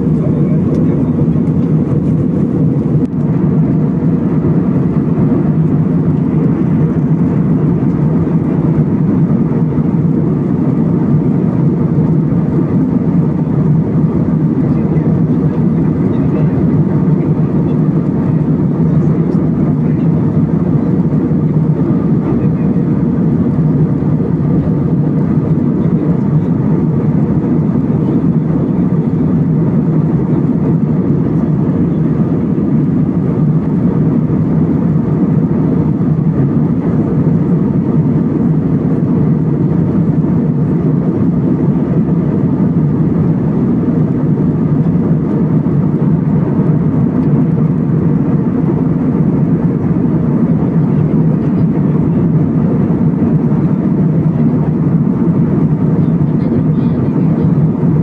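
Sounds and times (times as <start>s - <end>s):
jet engine cabin rush: 0.0s - 58.0s.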